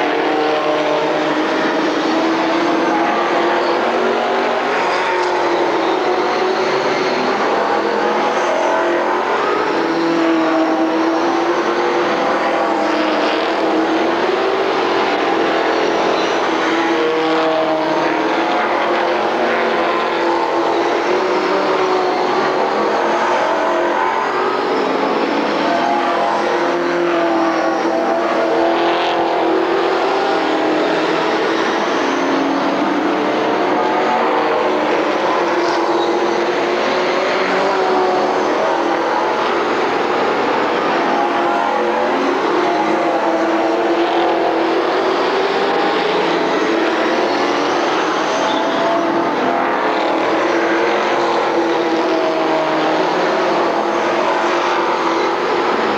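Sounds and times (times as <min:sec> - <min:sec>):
racing car engines: 0:00.0 - 0:55.9.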